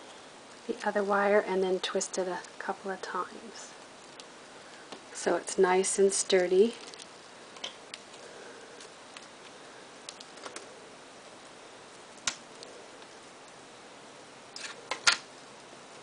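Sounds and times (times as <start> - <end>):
room hiss: 0.0 - 16.0.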